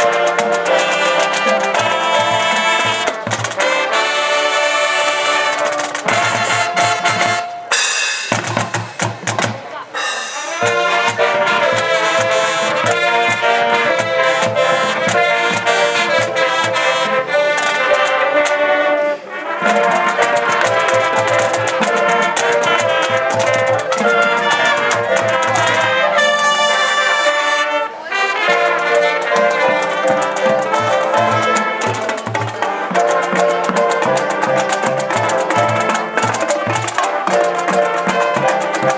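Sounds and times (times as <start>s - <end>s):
marching band playing: 0.0s - 38.9s.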